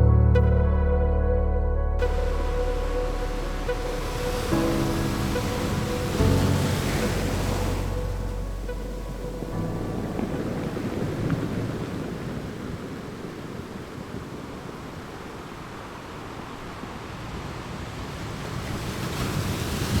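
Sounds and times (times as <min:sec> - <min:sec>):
ocean waves washing ashore: 0:02.0 - 0:20.0.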